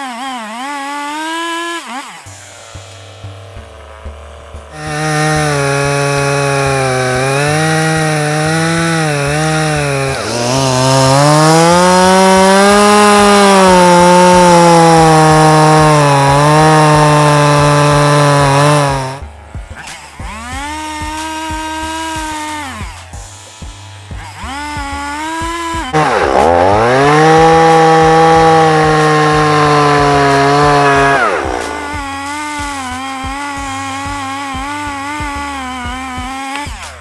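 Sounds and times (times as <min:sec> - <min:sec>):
chainsaw idling: 0:00.0 - 0:36.9
chainsaw cutting wood: 0:00.0 - 0:37.0.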